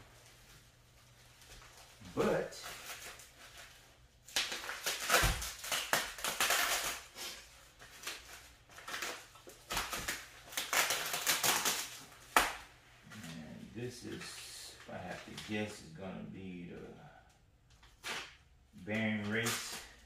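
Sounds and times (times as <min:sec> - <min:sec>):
packaging rustling and crinkling: 0:00.0 - 0:15.8, 0:17.7 - 0:20.0.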